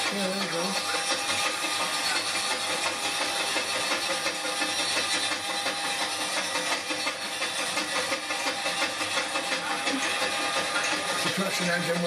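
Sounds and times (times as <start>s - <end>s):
steam engine running with hiss: 0.0s - 12.0s.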